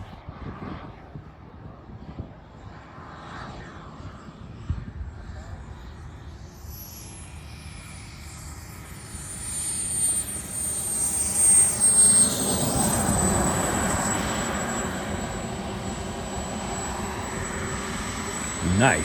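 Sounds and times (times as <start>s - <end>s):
jet turbine whine passing: 2.8s - 19.0s.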